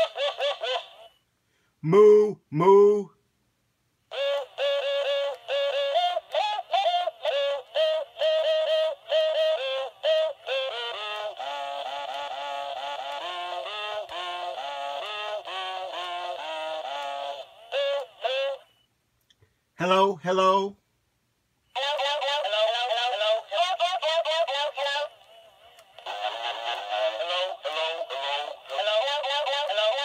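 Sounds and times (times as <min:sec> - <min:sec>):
toy doll electronic tune: 0:00.0 - 0:01.2, 0:04.1 - 0:18.8, 0:21.7 - 0:30.0.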